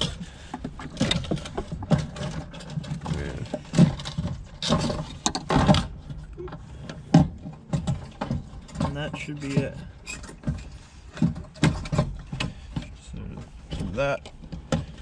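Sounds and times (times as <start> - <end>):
plastic clicking and scraping: 0.0 - 15.0.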